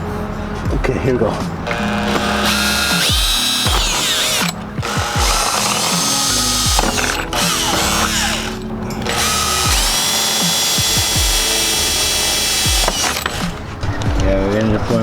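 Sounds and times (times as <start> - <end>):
background music with sliding bass: 0.0 - 15.0.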